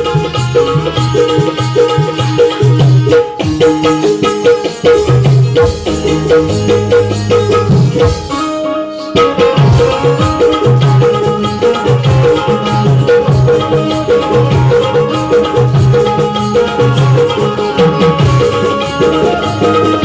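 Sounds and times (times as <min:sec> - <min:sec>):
drum beat music over speakers: 0:00.0 - 0:20.0.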